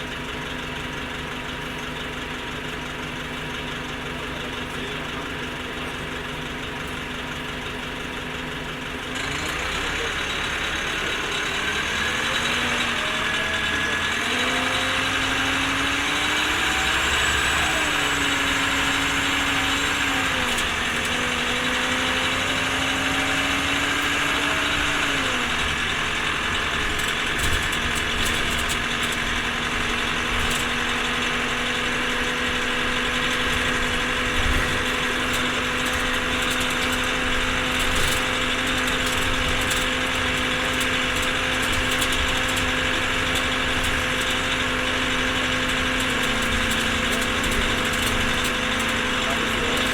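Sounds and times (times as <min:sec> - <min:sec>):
bus engine and drivetrain whine: 0:00.0 - 0:49.9.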